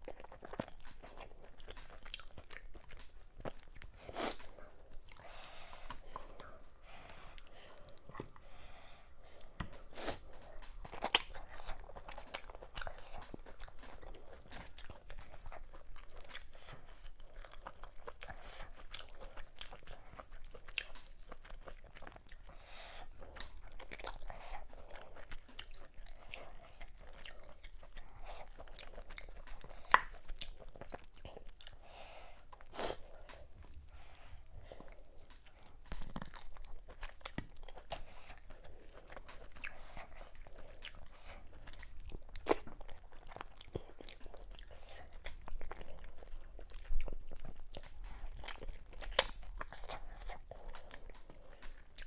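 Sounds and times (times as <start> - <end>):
wet chewing mouth clicks: 9.4 - 52.0.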